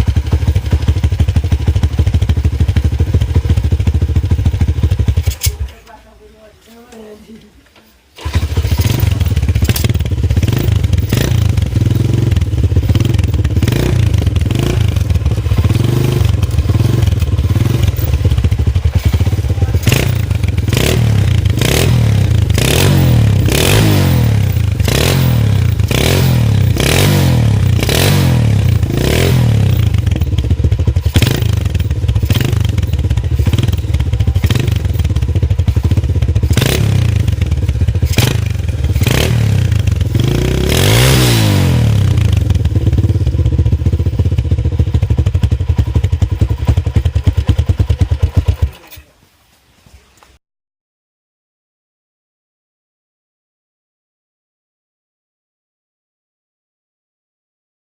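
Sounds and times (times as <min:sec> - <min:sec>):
exhaust cracks: 0:00.0 - 0:06.0, 0:08.1 - 0:49.1
motorcycle engine revving: 0:00.0 - 0:06.0, 0:08.1 - 0:49.1.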